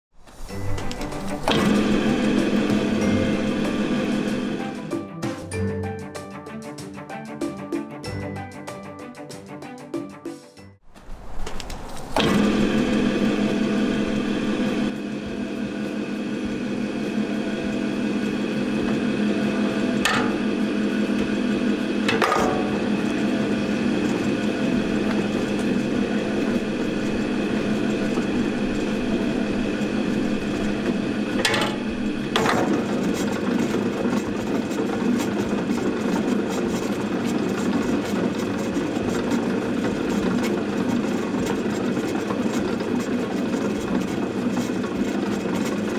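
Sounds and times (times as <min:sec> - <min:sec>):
mixer motor hum: 0:00.2 - 0:06.0, 0:11.2 - 0:45.9.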